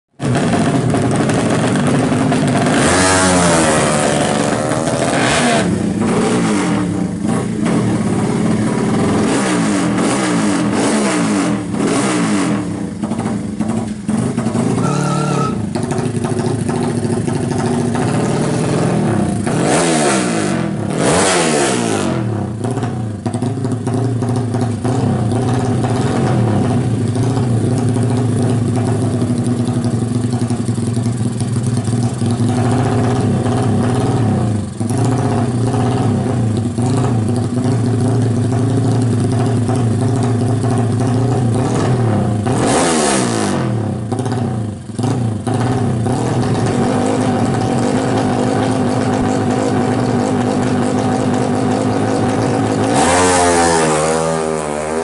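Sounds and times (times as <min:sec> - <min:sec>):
motorbike engines revving hard: 0:00.2 - 0:30.4, 0:31.2 - 0:55.0.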